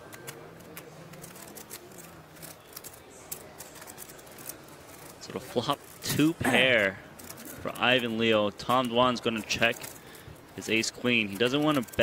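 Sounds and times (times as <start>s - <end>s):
poker chips clicking: 0.1s - 6.4s, 8.6s - 12.0s.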